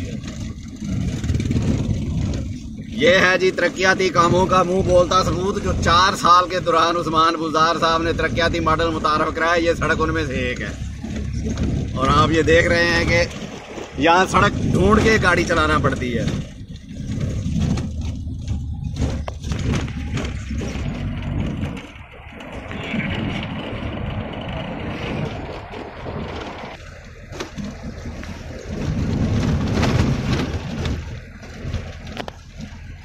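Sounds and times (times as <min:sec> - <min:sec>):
car road noise rumble: 0:00.0 - 0:33.0
wheels knocking in potholes: 0:00.0 - 0:33.0.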